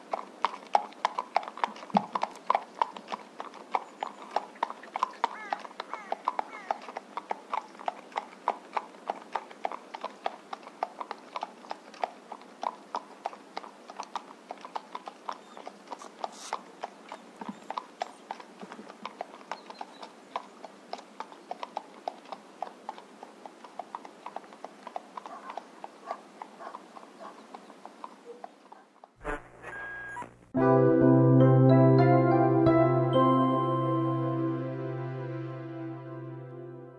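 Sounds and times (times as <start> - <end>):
horse hooves clip-clopping: 0.0 - 30.5.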